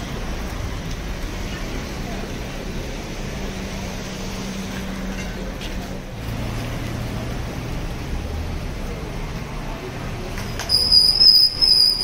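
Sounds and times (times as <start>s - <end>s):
street noise: 0.0s - 12.0s
vehicle engine droning: 0.0s - 12.0s.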